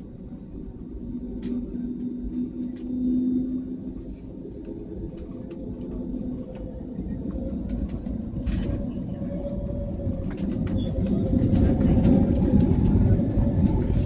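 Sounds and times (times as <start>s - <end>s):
cabin rumble: 0.0s - 14.0s
faint engine hum: 0.0s - 14.0s.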